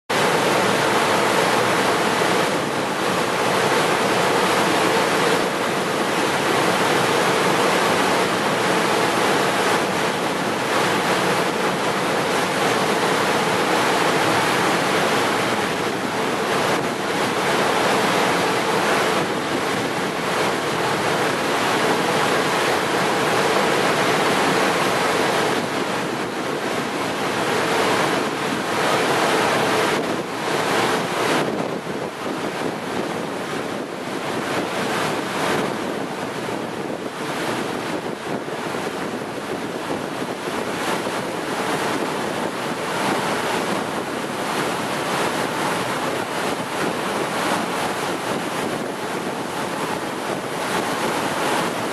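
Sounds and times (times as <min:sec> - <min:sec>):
hydrofoil ferry rushing: 0:00.1 - 0:51.9.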